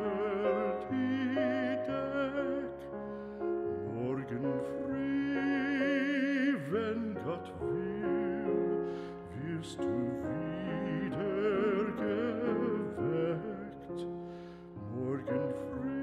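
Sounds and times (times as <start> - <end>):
operatic singer with vibrato: 0.0 - 3.0, 3.7 - 16.0.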